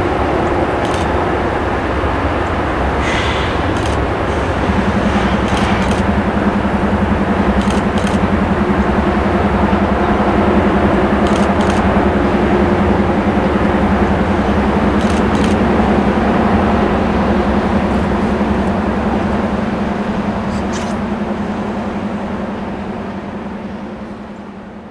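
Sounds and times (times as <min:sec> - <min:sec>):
train engine drone: 0:00.0 - 0:24.9.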